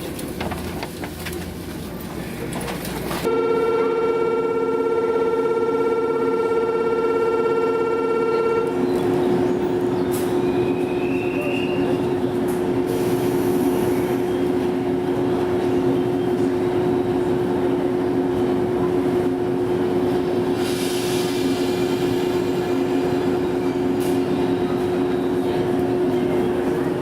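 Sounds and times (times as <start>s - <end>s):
electric train hum and rumble: 0.0s - 27.0s.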